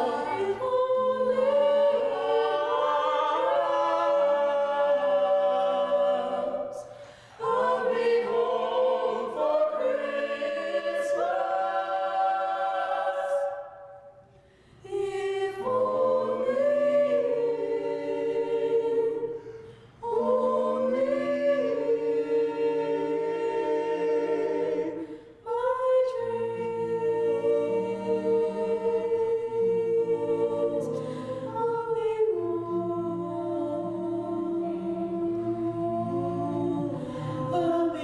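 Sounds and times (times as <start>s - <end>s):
choir singing a cappella: 0.0s - 38.0s.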